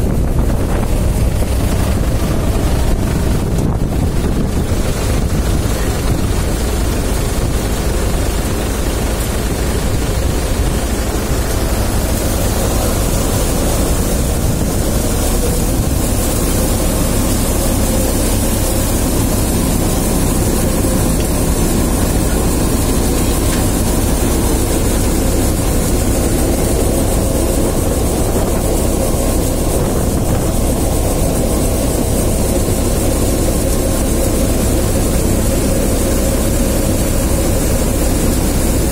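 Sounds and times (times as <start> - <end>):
thresher machine drone: 0.0 - 38.9.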